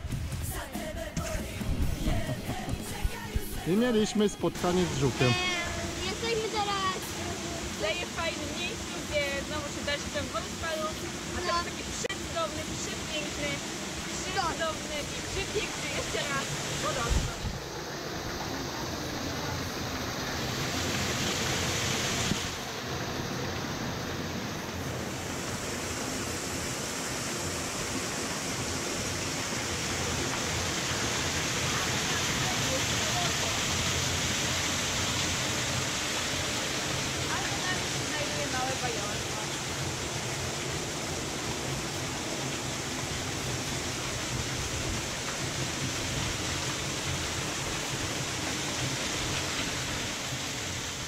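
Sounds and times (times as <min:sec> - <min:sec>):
stream splashing over boulders: 0:01.6 - 0:51.0.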